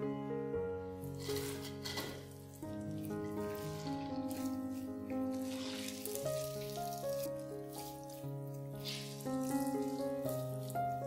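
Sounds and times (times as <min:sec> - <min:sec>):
background music of held notes: 0:00.0 - 0:11.0
water trickling through a metal sieve: 0:01.1 - 0:11.0.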